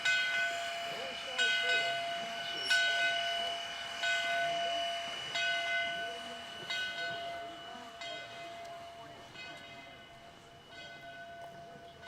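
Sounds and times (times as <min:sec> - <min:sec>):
steam locomotive bell ringing: 0:00.0 - 0:12.0.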